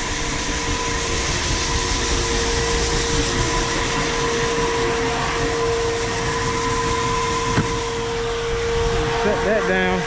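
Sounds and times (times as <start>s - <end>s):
machinery whine: 0.0s - 10.0s.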